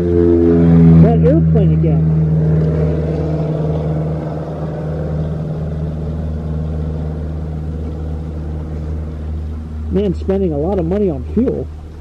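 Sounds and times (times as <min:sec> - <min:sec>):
airplane flying overhead: 0:00.0 - 0:12.0.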